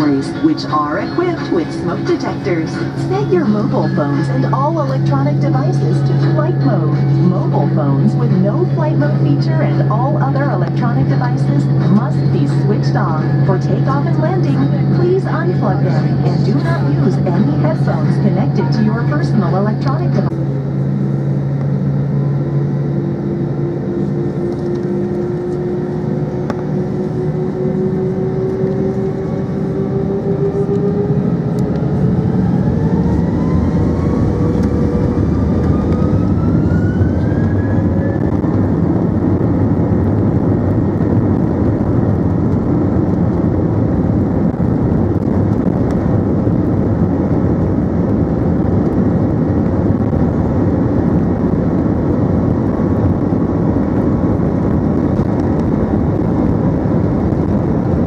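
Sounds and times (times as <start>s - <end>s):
jet engine roar: 0.0s - 58.0s
jet engine whine: 0.0s - 58.0s.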